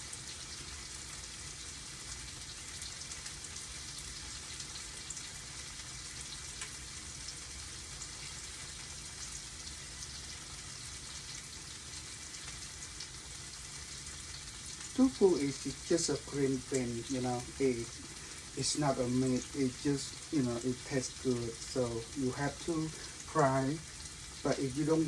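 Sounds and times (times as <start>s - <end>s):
tofu sizzling in hot oil: 0.0s - 25.0s.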